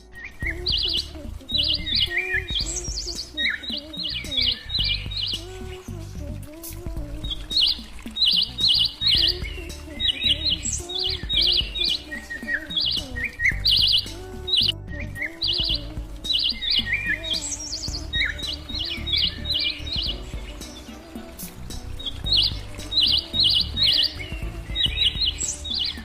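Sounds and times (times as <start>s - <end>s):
bird chirping: 0.0s - 6.2s, 7.1s - 26.0s
soft background music: 0.0s - 26.0s.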